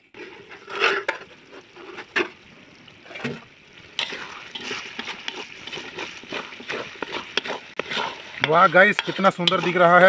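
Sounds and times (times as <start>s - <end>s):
metal spatula scraping wok: 0.0s - 2.4s, 3.9s - 10.0s
wet sloshing: 1.8s - 9.9s.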